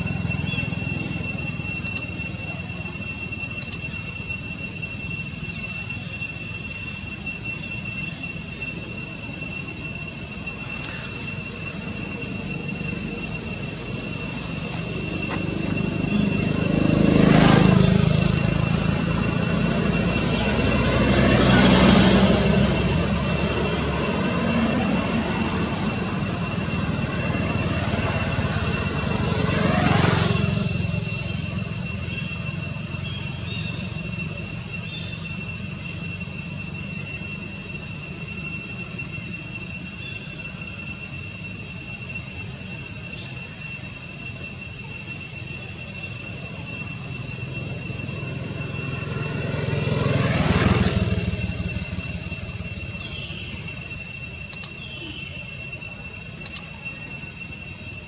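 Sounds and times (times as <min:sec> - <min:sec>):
high-pitched whine: 0:00.0 - 0:58.0.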